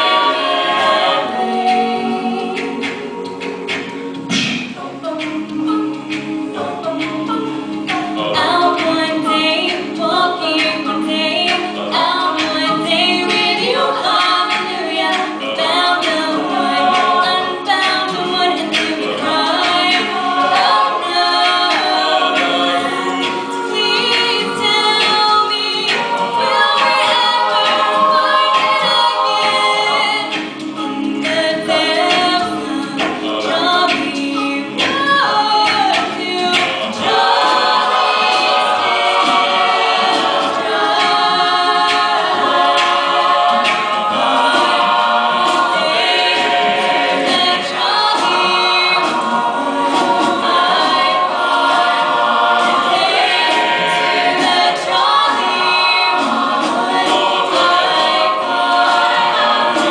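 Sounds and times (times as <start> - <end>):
mixed choir singing a cappella: 0.0 - 59.9.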